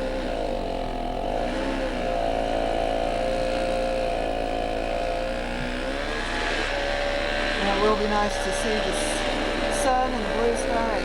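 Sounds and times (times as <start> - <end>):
snowblower engine running hard: 0.0 - 11.0.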